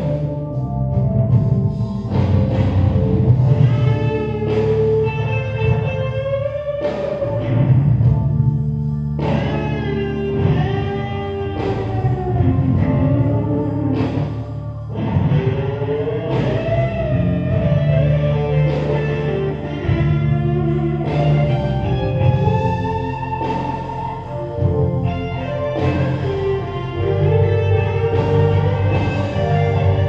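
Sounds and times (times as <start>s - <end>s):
sustained low bass notes: 0.0s - 30.0s
wavering guitar melody: 0.0s - 30.0s.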